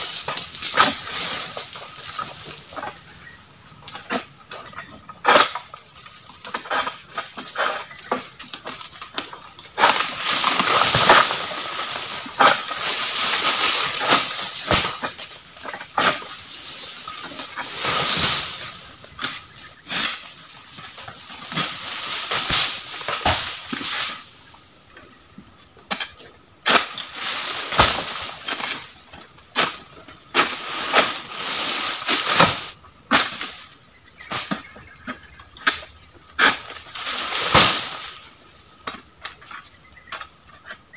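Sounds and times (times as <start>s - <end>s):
palm fronds rustling: 0.0s - 25.4s, 26.0s - 40.9s
insects droning: 0.0s - 40.9s.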